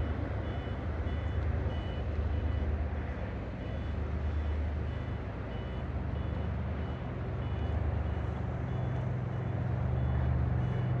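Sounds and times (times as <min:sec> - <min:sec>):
low diesel engine drone: 0:00.0 - 0:11.0.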